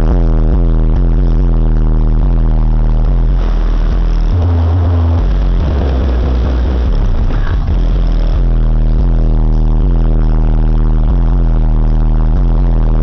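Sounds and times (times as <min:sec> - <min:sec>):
deep bass notes from subwoofers: 0:00.0 - 0:13.0
harsh buzzing distortion: 0:00.0 - 0:13.0.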